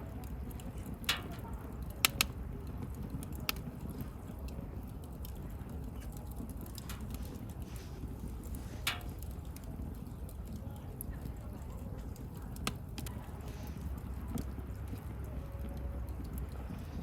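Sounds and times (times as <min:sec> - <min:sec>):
low rumble of burning: 0:00.0 - 0:17.0
wood fire crackling: 0:00.0 - 0:17.0.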